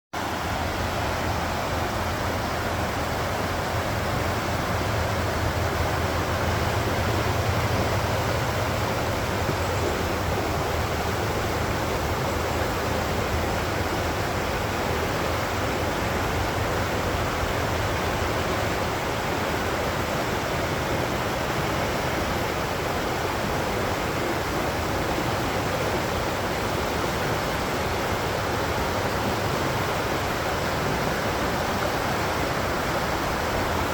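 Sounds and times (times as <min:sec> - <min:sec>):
rushing water: 0:00.2 - 0:33.9.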